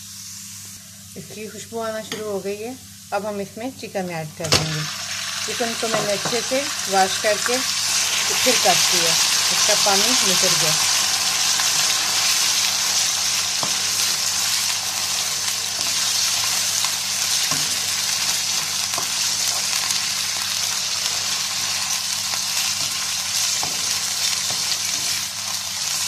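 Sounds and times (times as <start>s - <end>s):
chicken sizzling in hot oil: 4.5s - 26.0s.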